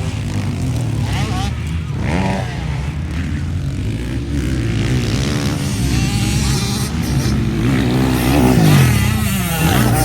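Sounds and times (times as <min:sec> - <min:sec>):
motocross bikes revving: 0:00.0 - 0:10.0.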